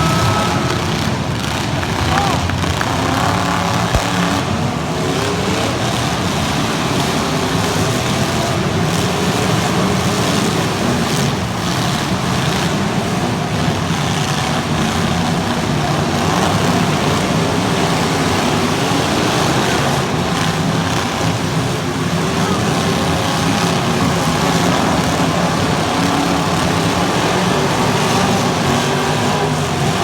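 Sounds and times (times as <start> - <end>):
car engines running loudly: 0.0 - 30.0.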